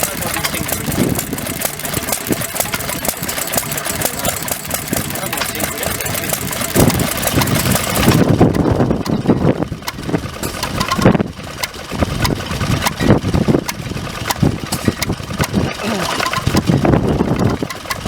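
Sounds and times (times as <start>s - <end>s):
stationary engines running slowly: 0.0s - 18.0s.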